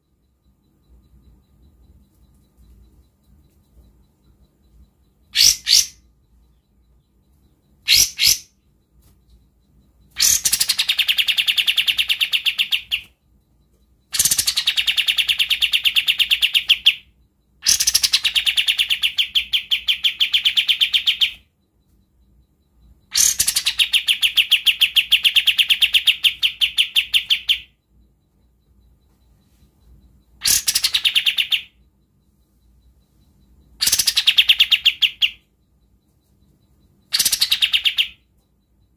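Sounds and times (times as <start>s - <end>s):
bird singing rattling trill: 0.0s - 38.9s.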